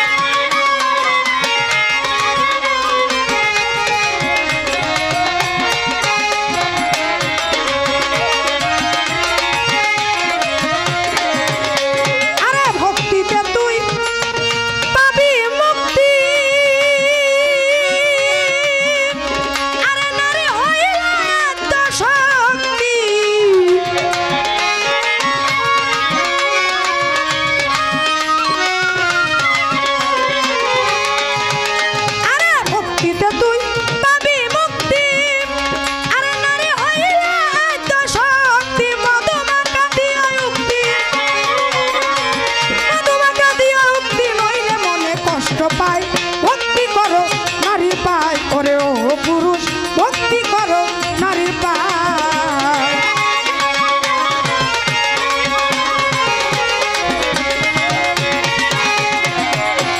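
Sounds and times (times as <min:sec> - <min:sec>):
hand drum: 0:00.0 - 0:59.9
violin melody: 0:00.0 - 0:59.9.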